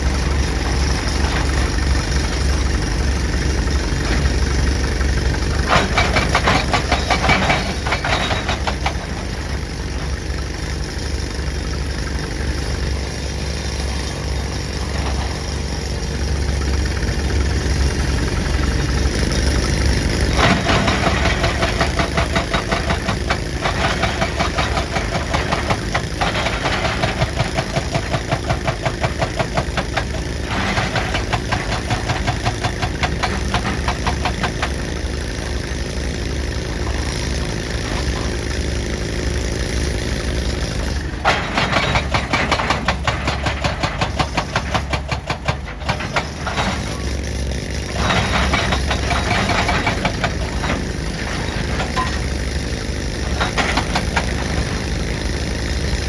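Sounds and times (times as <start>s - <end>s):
hydraulic breaker hammering rock: 0.0s - 11.4s, 12.5s - 56.0s
excavator engine running: 0.0s - 56.0s.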